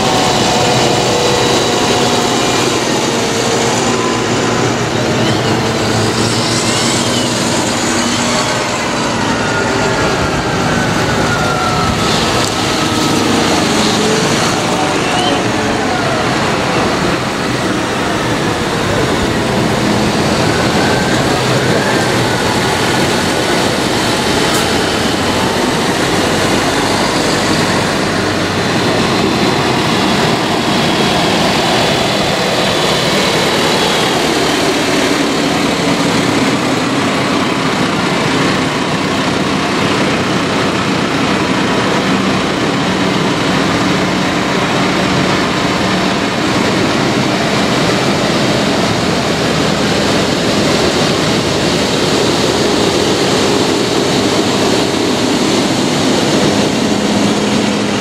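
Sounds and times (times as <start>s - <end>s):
tractor diesel engines: 0.0s - 58.0s
tyres hissing on wet road: 0.0s - 58.0s.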